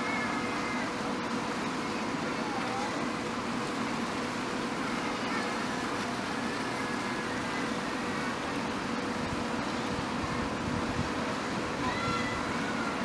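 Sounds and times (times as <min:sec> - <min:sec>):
motorboat engines humming: 0:00.0 - 0:13.0.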